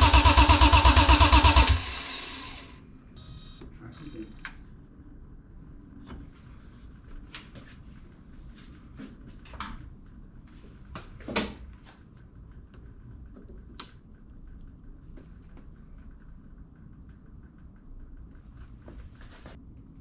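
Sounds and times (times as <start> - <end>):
low steady background noise: 2.7 - 20.0.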